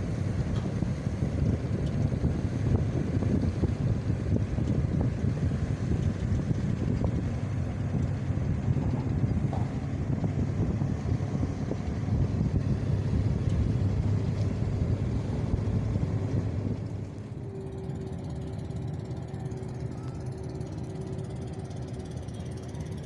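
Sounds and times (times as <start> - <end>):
boat engine rumble: 0.0 - 23.0
wind buffeting microphone: 0.0 - 23.0.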